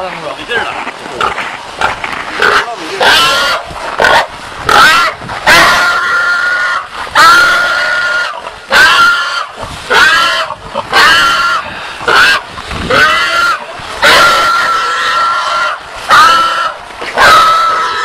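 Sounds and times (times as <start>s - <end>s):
wild boar squealing: 0.6s - 18.0s.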